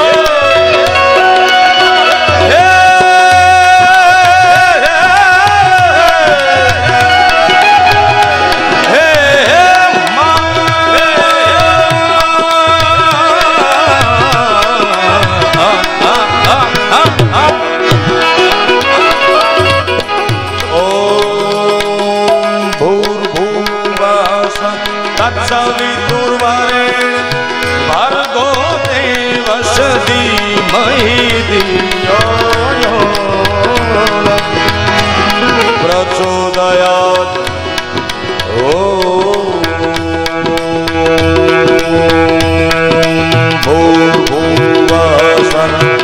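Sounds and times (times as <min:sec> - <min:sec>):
harmonium drone: 0:00.0 - 0:46.0
man singing: 0:00.0 - 0:46.0
tabla rhythm: 0:00.0 - 0:46.0.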